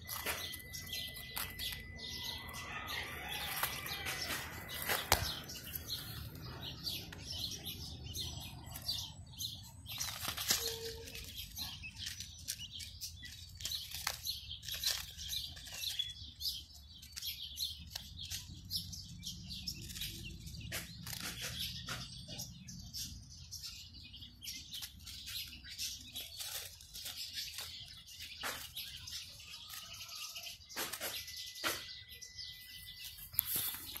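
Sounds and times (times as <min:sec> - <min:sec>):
quail chicks peeping: 0:00.0 - 0:34.0.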